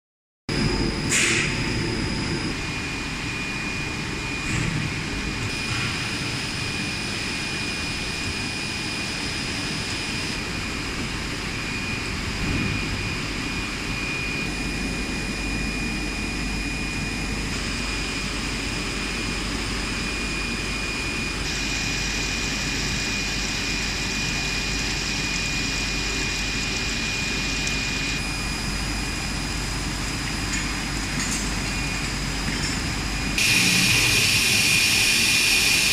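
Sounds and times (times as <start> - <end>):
high-pitched whine: 0.5 - 35.9
machinery drone: 0.5 - 35.9.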